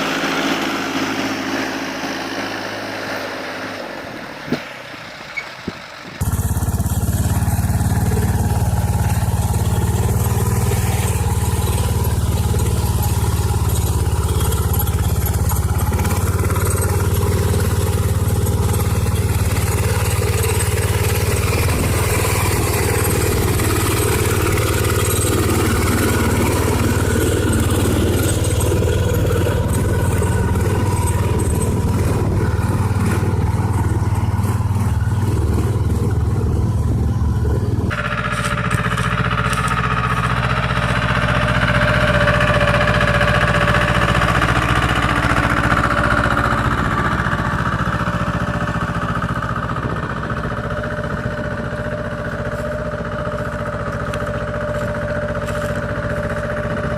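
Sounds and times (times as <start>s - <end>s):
higher-pitched engine running: 0.0s - 56.9s
small tractor engines running: 0.0s - 56.9s.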